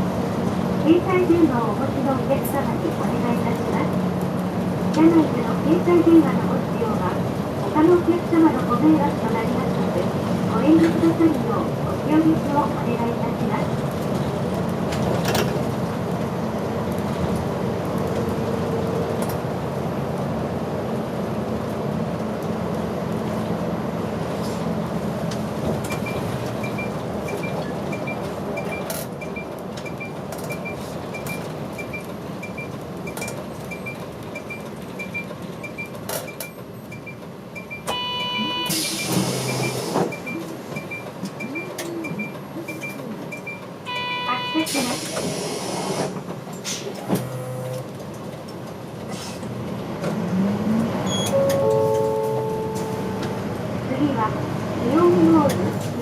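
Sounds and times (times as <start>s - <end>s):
bus diesel engine: 0.0s - 56.0s
road noise: 0.0s - 56.0s.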